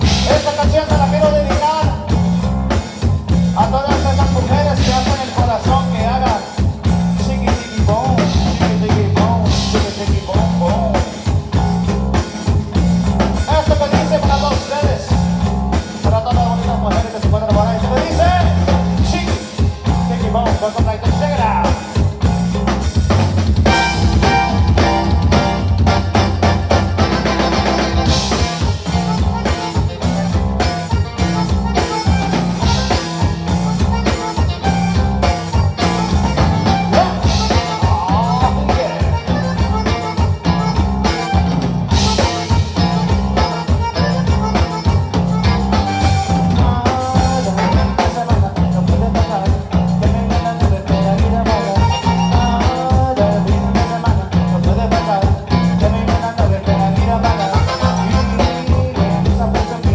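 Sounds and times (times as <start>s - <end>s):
bass guitar: 0.0s - 59.9s
button accordion melody: 0.0s - 59.9s
drum kit beat: 0.0s - 59.9s
guitar: 0.0s - 59.9s.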